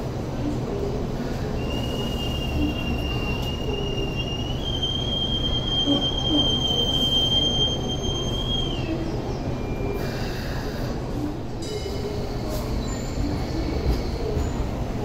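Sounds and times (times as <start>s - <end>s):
tram wheels squealing: 1.5s - 15.0s.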